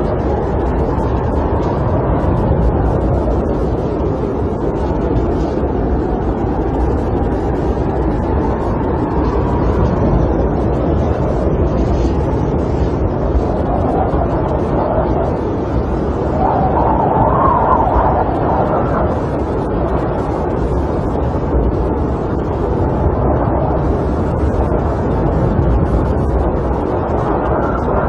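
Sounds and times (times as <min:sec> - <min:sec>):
snowstorm wind blowing: 0:00.0 - 0:28.0.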